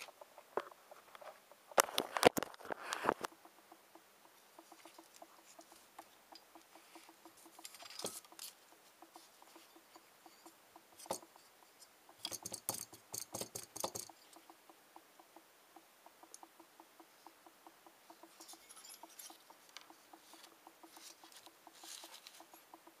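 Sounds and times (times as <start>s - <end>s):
crackly rustles and light clicks: 0.0s - 23.0s
faint even ticking: 3.0s - 23.0s.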